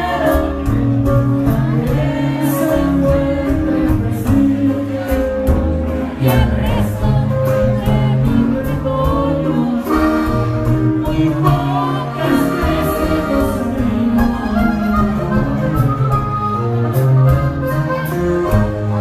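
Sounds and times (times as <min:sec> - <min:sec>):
song with singing and band: 0:00.0 - 0:19.0
steady bass line: 0:00.0 - 0:19.0.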